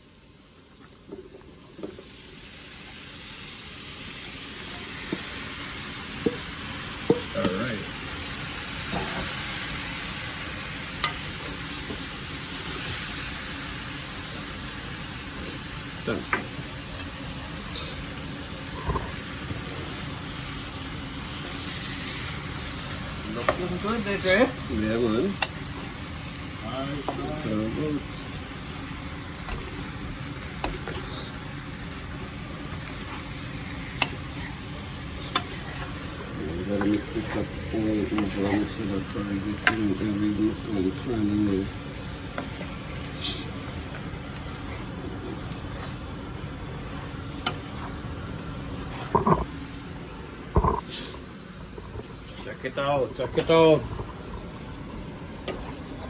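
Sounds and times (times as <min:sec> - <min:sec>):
curry sizzling while stirred: 0:00.0 - 0:49.9
pot cooking with low rumble: 0:00.0 - 0:56.0.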